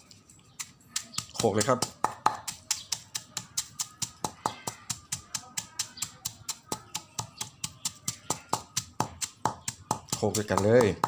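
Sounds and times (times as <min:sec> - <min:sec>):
pestle pounding in a mortar: 0:00.6 - 0:11.0.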